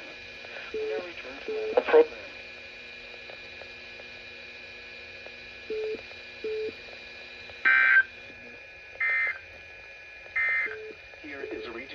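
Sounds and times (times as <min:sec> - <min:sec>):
steady electronic hum: 0:00.0 - 0:11.9.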